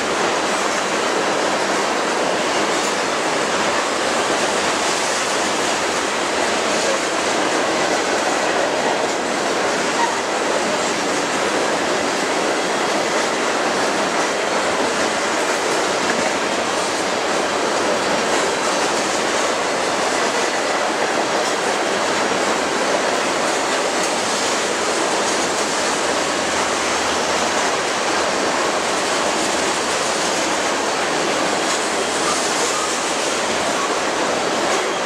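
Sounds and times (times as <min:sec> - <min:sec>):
steel train wheels on rail: 0:00.0 - 0:35.0.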